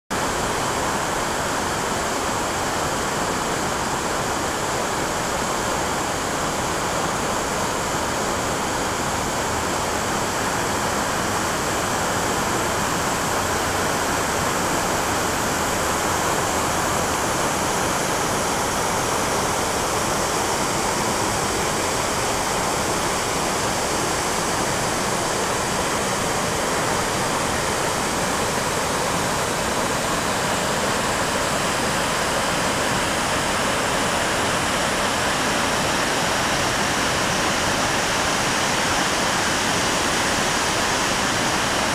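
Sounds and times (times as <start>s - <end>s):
water rushing through gorge: 0.2s - 41.9s.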